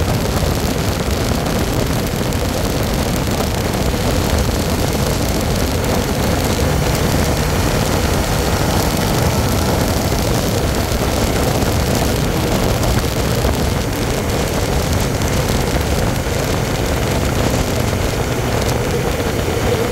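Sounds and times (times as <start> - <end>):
motorcycle engine running: 0.0 - 19.9
wind and road noise: 0.0 - 19.9.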